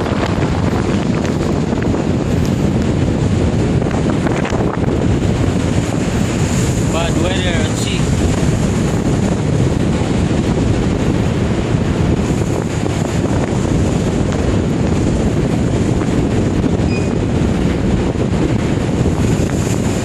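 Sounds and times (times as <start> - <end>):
heavy seas: 0.0 - 20.0
strong wind rushing: 0.0 - 20.0
wind buffeting microphone: 0.0 - 20.0.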